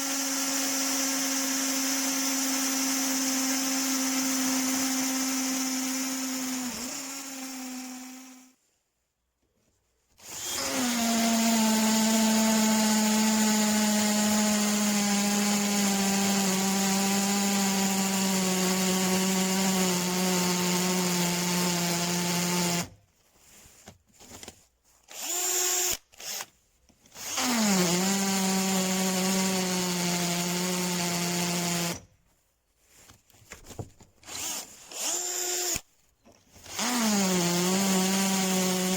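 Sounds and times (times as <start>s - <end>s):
cordless drill running: 0.0s - 8.5s, 10.2s - 22.9s, 25.1s - 26.5s, 27.2s - 32.0s, 34.2s - 35.9s, 36.6s - 38.9s.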